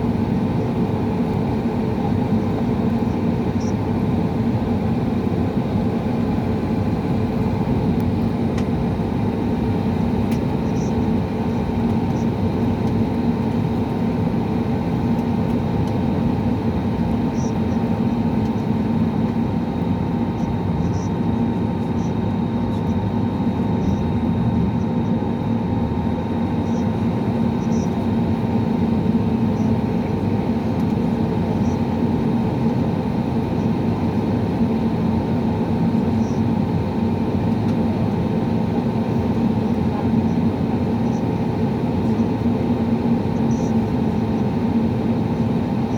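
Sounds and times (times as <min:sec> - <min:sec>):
aircraft engine drone in cabin: 0:00.0 - 0:45.9.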